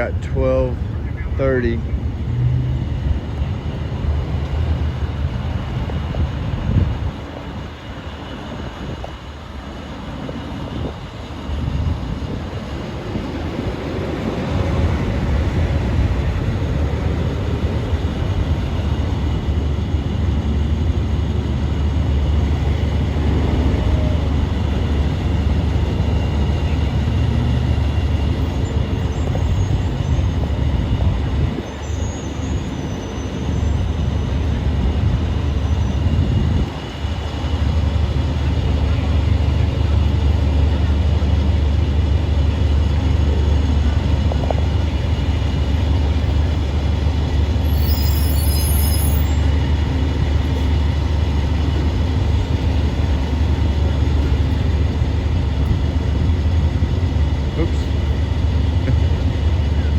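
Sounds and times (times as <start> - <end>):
heavy vehicle traffic rumble: 0.0 - 59.9.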